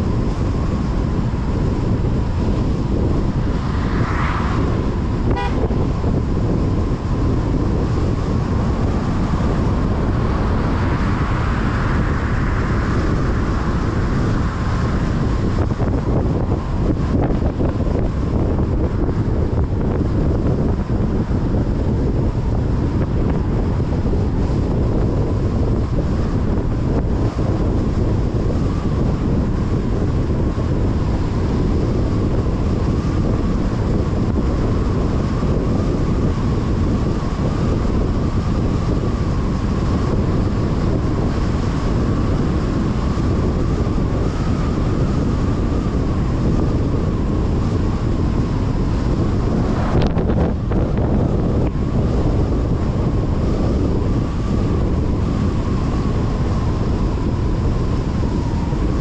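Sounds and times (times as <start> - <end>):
car road noise at speed: 0.0 - 59.0
wind rumbling on microphone: 0.0 - 59.0.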